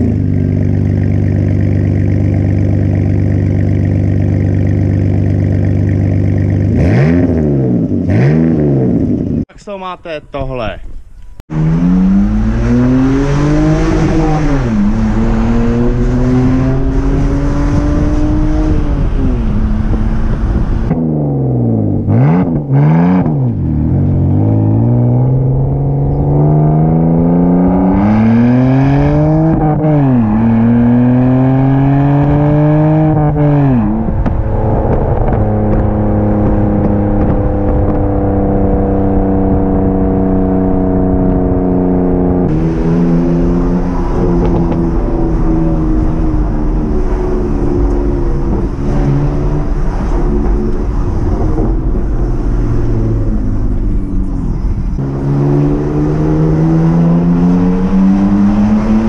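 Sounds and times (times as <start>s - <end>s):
car engine revving: 0.0s - 9.5s, 11.4s - 59.0s.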